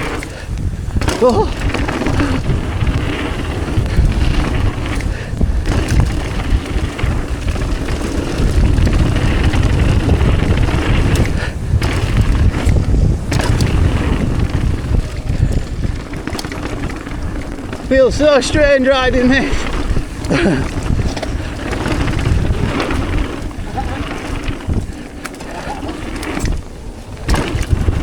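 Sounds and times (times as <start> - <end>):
bike clicks and knocks: 0.0 - 28.0
mountain bike rolling on dirt: 0.0 - 28.0
wind buffeting microphone: 0.0 - 28.0.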